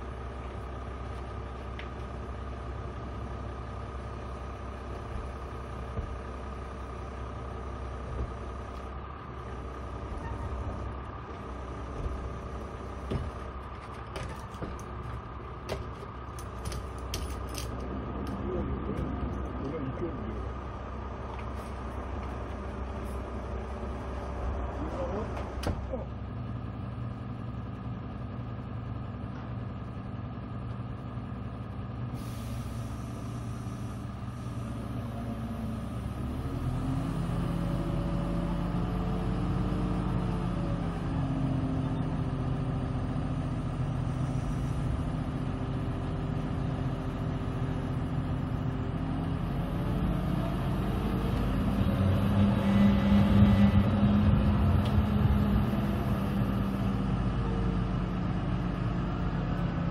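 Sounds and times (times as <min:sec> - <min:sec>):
crane engine running: 0:00.0 - 0:59.9.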